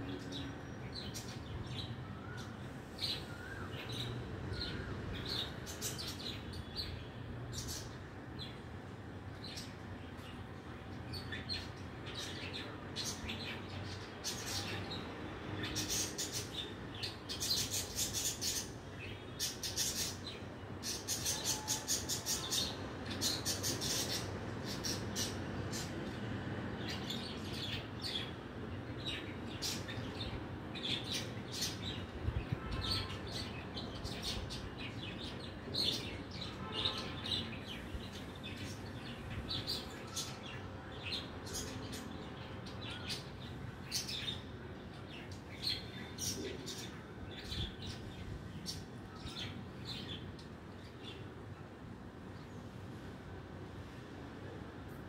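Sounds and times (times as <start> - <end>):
small birds twittering: 0.0 - 51.4.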